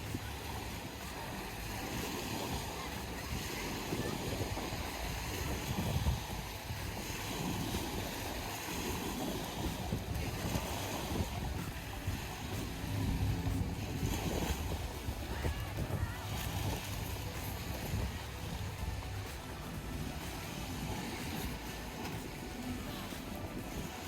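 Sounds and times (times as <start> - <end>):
waves washing onto sandy shore: 0.0 - 24.0
wind buffeting microphone: 0.0 - 24.0.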